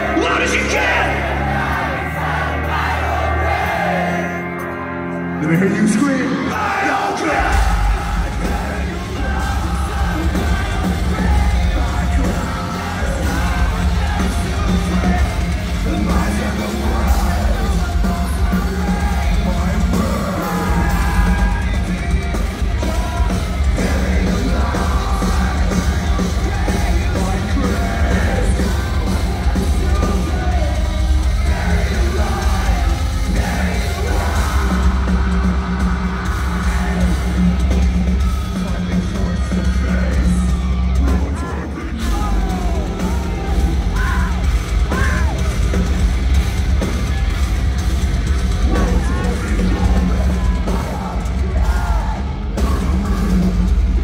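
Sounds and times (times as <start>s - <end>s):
bass guitar: 0.0s - 54.0s
distorted guitars: 0.0s - 54.0s
pounding drums: 6.6s - 54.0s.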